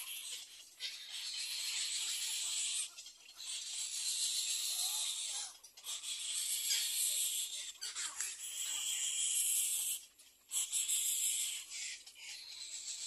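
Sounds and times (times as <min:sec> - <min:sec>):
egret chicks hissing begging calls: 0:00.0 - 0:13.0.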